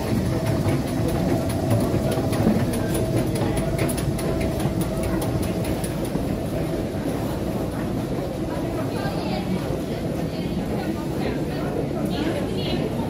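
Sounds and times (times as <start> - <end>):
metro station rumble: 0.0 - 13.0.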